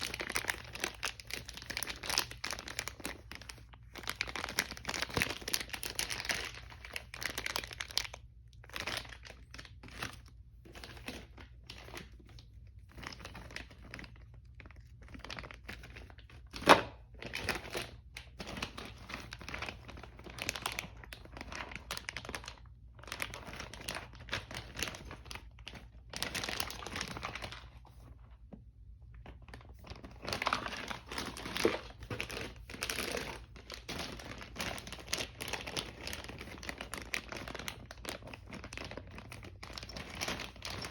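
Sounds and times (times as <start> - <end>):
packaging crinkling and rustling: 0.0 - 40.9.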